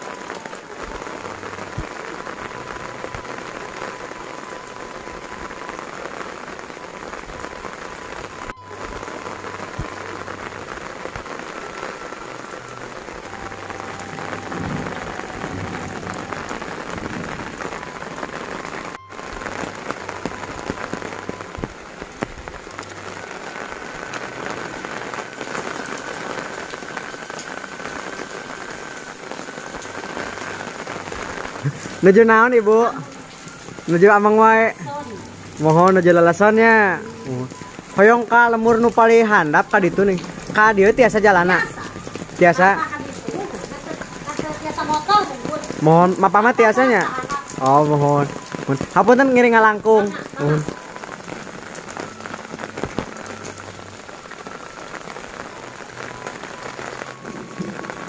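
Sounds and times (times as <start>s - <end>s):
heavy rain on roofs: 0.0s - 58.0s
water dripping off eaves: 0.0s - 58.0s.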